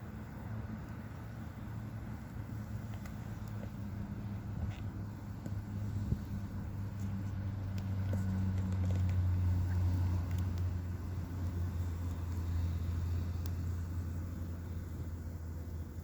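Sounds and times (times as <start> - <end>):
campfire crackling and popping: 0.0 - 16.0
steady low hum: 0.0 - 16.0.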